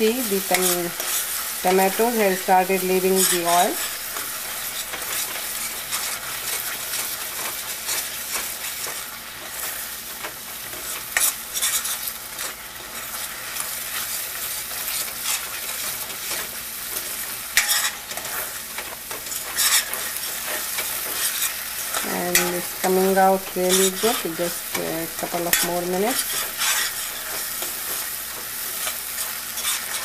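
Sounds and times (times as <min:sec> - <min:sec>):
sauce sizzling in hot oil: 0:00.0 - 0:30.0
metal spoon scraping a pan: 0:00.2 - 0:06.8, 0:10.7 - 0:13.7, 0:14.9 - 0:30.0.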